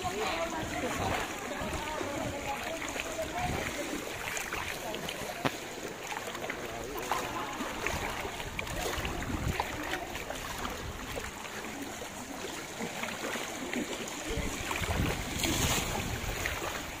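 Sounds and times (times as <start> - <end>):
floodwater sloshing from wading: 0.0 - 17.0.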